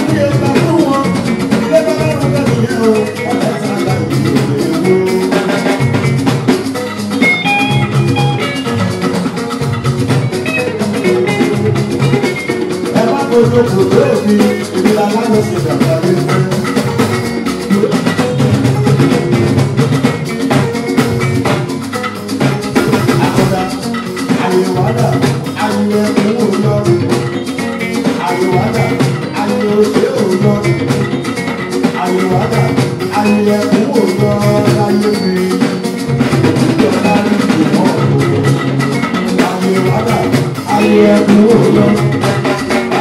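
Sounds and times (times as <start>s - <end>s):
live rock band music: 0.0s - 43.0s.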